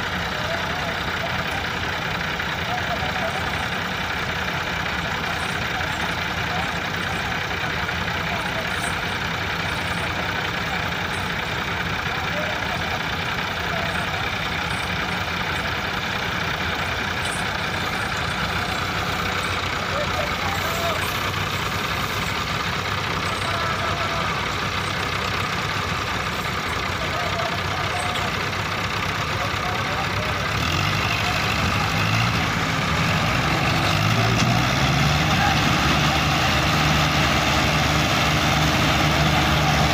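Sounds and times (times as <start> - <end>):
diesel engines idling: 0.0 - 39.9.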